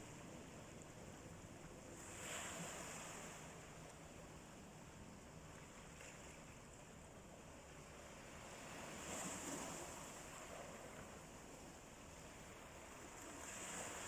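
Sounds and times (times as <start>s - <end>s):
faint sea waves: 0.0s - 14.0s.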